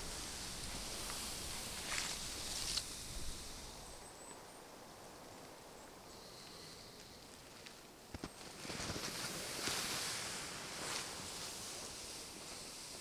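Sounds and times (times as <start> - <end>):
soft wind: 0.0 - 13.0.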